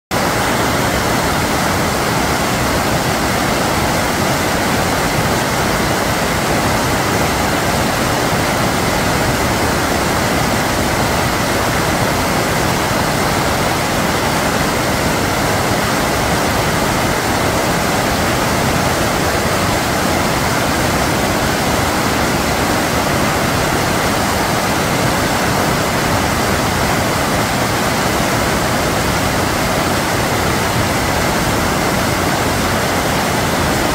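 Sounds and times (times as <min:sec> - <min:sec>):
stream rushing over blocks: 0:00.1 - 0:33.9.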